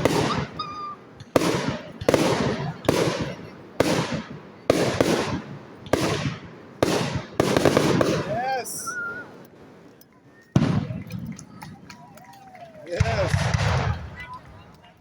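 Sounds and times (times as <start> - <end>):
fireworks bangs: 0.0 - 14.9.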